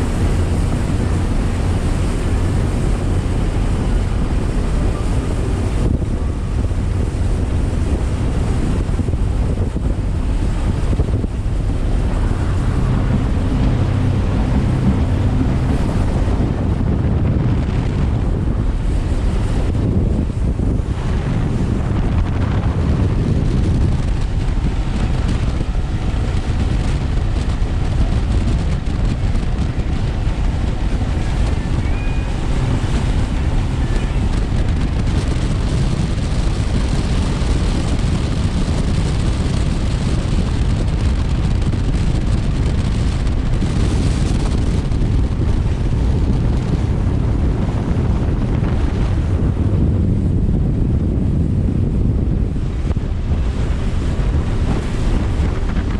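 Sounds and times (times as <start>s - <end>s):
outboard motors running: 0.0s - 55.9s
water rushing along hull: 0.0s - 55.9s
wind buffeting microphone: 0.0s - 55.9s.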